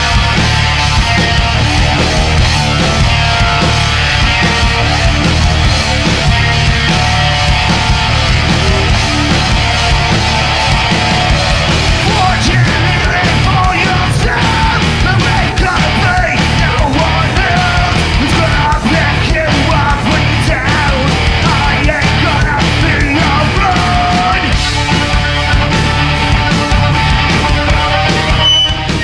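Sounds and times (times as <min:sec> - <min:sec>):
heavy metal band playing: 0:00.0 - 0:29.0.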